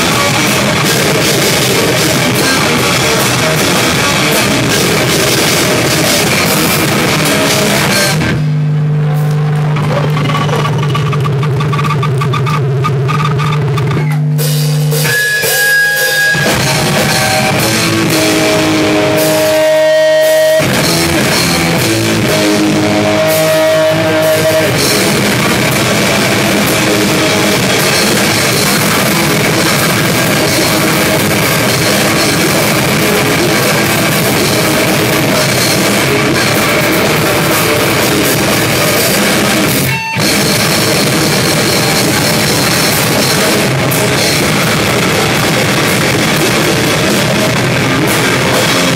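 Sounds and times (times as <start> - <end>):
heavy rock band playing: 0.0 - 48.9
ringing electric guitar notes: 0.0 - 48.9.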